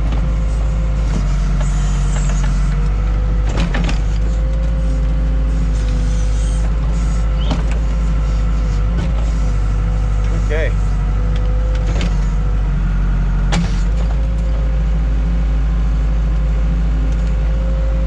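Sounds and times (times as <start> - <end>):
backhoe diesel engine running: 0.0 - 18.0
constant whine: 0.0 - 18.0.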